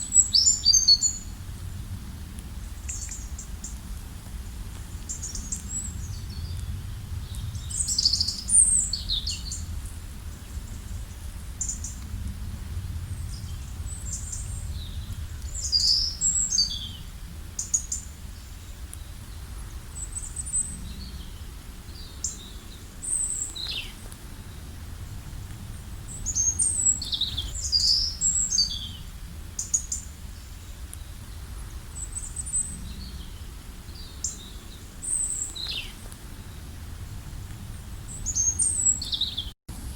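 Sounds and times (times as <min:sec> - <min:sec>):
songbirds chirping and calling: 0:00.0 - 0:01.4, 0:02.6 - 0:03.9, 0:04.8 - 0:12.0, 0:13.1 - 0:36.8, 0:37.7 - 0:39.6
low steady rumble: 0:00.0 - 0:39.9.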